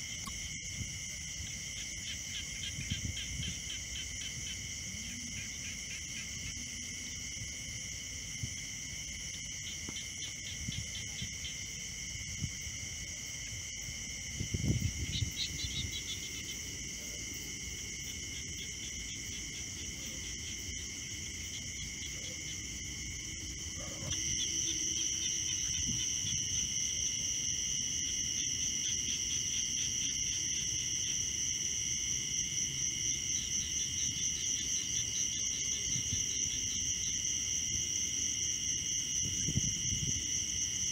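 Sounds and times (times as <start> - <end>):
night insects trilling: 0.0 - 40.9.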